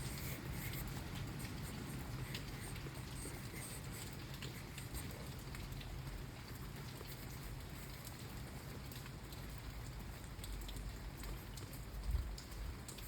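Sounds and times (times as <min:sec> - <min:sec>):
drips ticking on a surface: 0:00.0 - 0:13.0
steady rain: 0:00.0 - 0:13.0.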